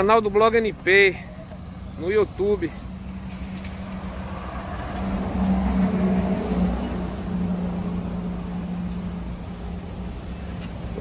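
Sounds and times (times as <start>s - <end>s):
low road rumble: 0.0s - 11.0s.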